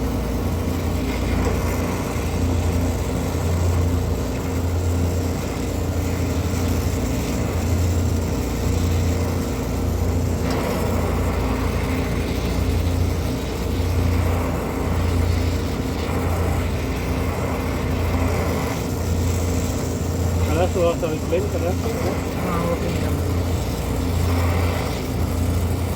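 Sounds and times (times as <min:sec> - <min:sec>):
machinery humming: 0:00.0 - 0:25.9.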